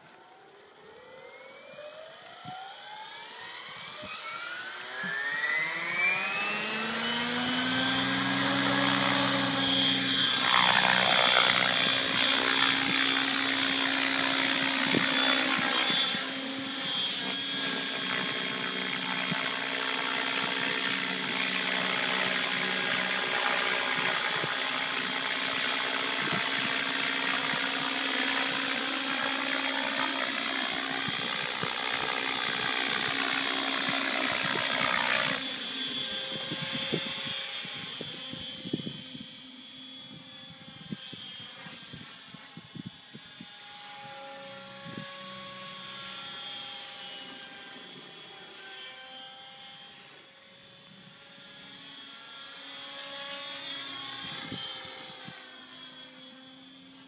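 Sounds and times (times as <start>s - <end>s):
rc helicopter motor and rotor whine: 0.0s - 57.0s.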